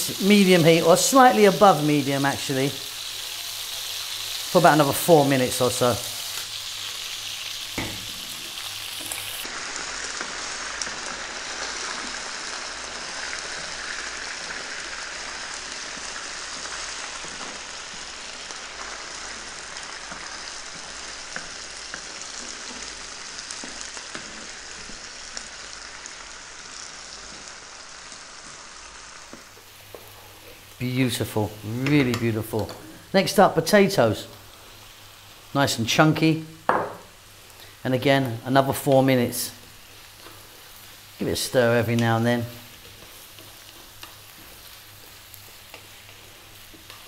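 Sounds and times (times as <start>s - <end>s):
food sizzling in a frying pan: 0.0s - 47.0s.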